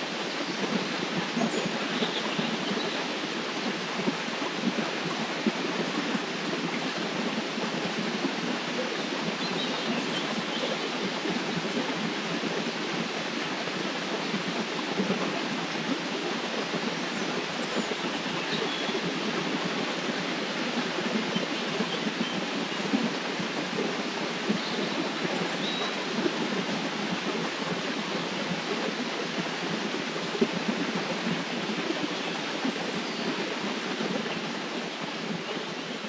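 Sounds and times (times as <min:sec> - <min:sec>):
river rushing and splashing: 0:00.0 - 0:36.0.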